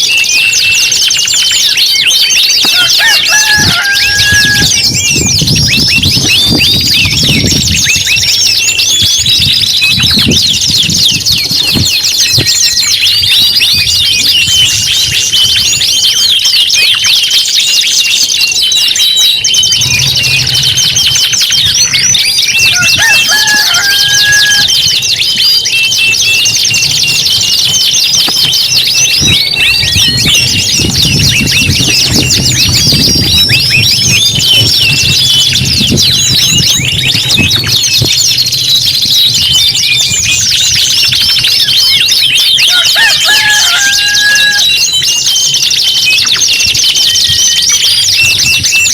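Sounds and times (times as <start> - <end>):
canaries singing: 0.0 - 48.9.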